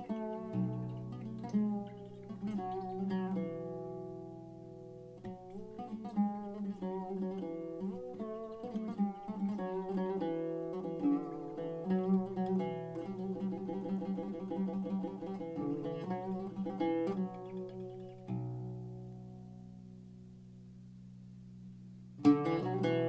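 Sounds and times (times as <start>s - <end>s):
plucked string instrument melody: 0.0s - 20.1s, 22.1s - 23.0s.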